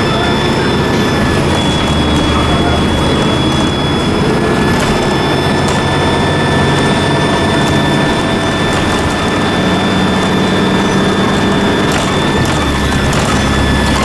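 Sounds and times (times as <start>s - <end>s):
bus engine rumbling: 0.0s - 14.0s
turbocharger whistle: 0.0s - 14.0s.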